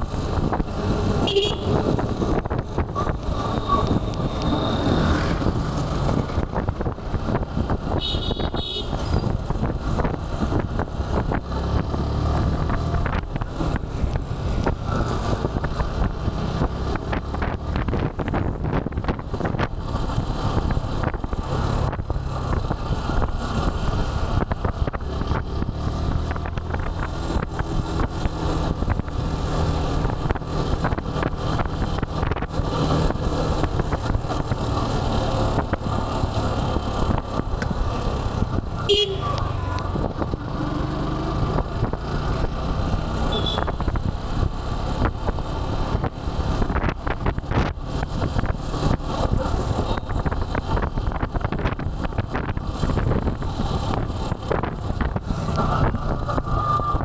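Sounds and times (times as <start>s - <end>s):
motorcycle engine and road rumble: 0.0s - 57.0s.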